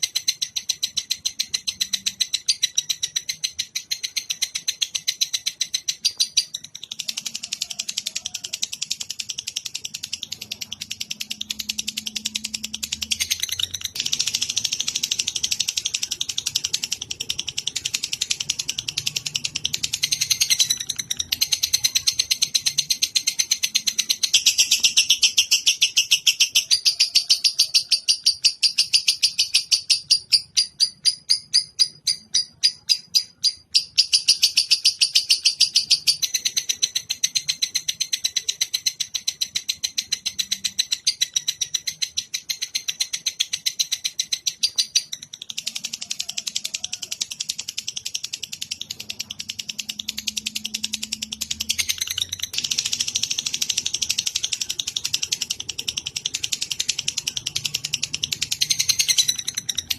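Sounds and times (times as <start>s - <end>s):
high-pitched bird trill: 0.0s - 59.9s.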